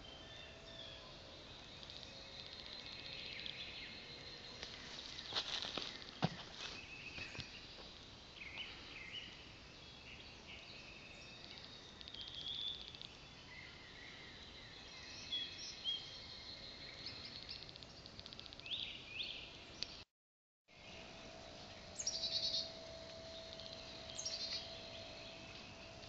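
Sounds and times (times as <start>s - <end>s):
bird trill: 0.0s - 7.8s, 8.4s - 20.0s, 20.8s - 26.0s
birds chirping and calling: 0.0s - 20.0s, 20.8s - 26.0s
faint outdoor background: 0.0s - 20.1s, 20.7s - 26.0s.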